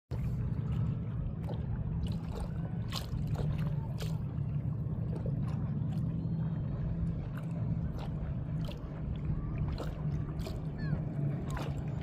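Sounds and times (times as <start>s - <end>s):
steady low rumble: 0.1s - 12.0s
water splashing and sloshing: 0.1s - 12.0s.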